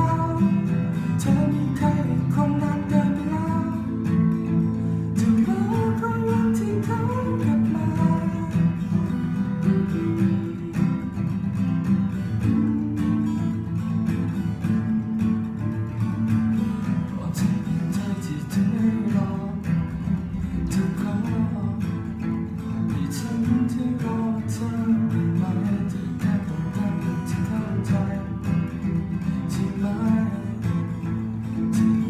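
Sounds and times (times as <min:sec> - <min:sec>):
acoustic guitar pop song: 0:00.0 - 0:32.0.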